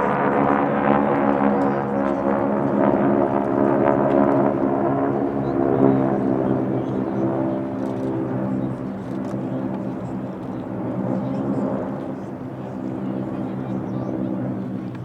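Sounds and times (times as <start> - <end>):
radial aircraft engines running: 0.0 - 15.0.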